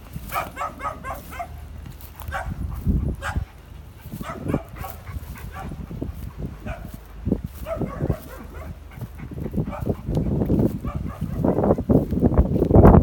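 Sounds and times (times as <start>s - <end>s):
low rumbling thuds: 0.0s - 13.0s.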